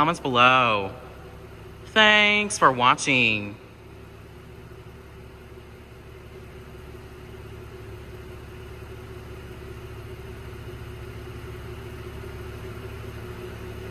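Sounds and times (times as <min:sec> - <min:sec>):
low mechanical hum: 0:00.0 - 0:13.9.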